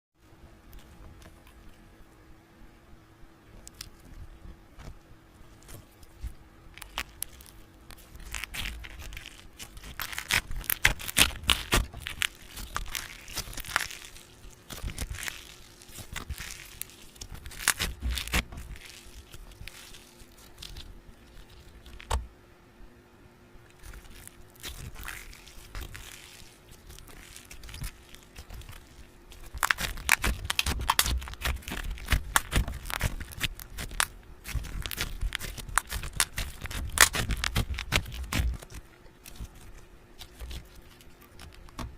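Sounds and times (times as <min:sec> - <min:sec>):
faint steady hum: 0:00.2 - 0:41.9
crinkling and tearing: 0:03.5 - 0:22.3, 0:23.7 - 0:41.9.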